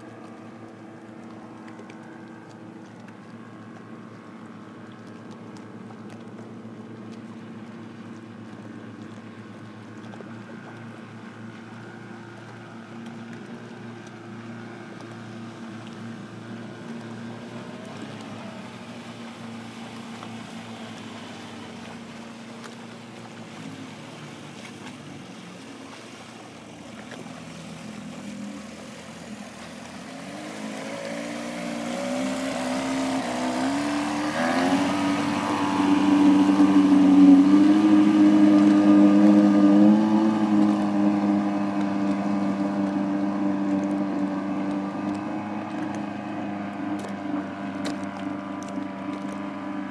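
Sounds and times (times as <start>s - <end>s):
boat engine speeding up: 0.0s - 49.9s.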